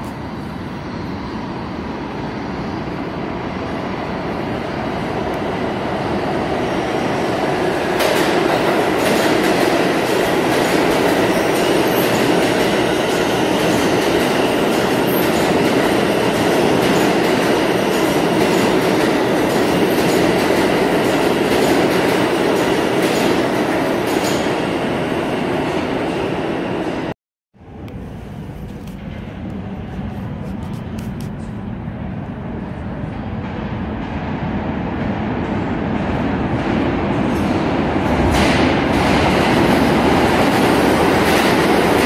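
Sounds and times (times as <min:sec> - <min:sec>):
subway train wheels rumbling: 0:00.0 - 0:42.0.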